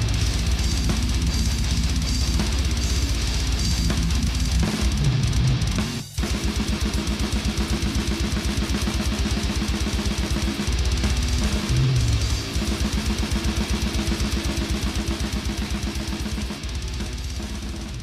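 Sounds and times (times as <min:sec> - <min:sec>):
distorted guitars: 0:00.0 - 0:18.0
fast double-bass kick drums: 0:00.0 - 0:18.0.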